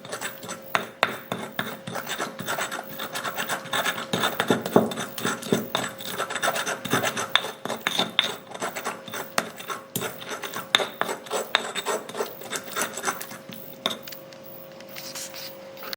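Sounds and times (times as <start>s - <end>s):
pestle grinding in stone mortar: 0.0s - 14.2s.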